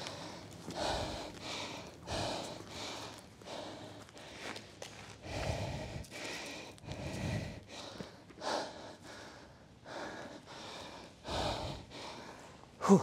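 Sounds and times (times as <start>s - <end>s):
person breathing heavily: 0.0s - 13.0s.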